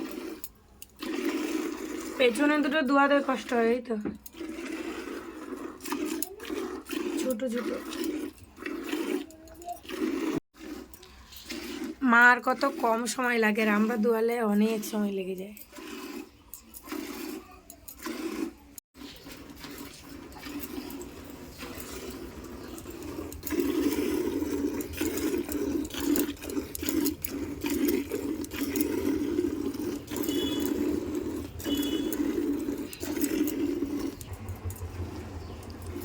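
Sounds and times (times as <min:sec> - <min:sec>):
milk squirting into bucket: 0:00.0 - 0:36.0.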